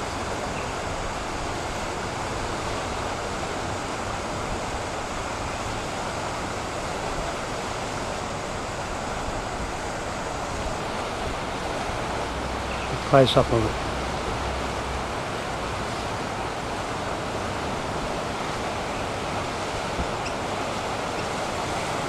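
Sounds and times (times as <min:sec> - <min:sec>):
fast-flowing floodwater: 0:00.0 - 0:22.0.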